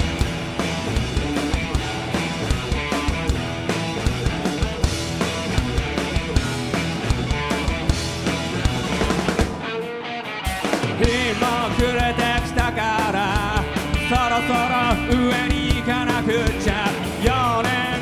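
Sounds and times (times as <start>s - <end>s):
drum kit driving beat: 0.0s - 9.8s, 10.4s - 18.0s
bass and guitars: 0.0s - 18.0s.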